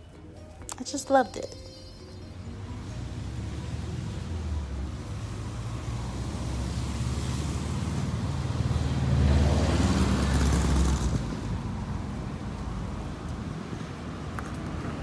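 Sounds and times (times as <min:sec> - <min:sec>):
vehicle engine and tyre rumble: 0:02.3 - 0:15.0.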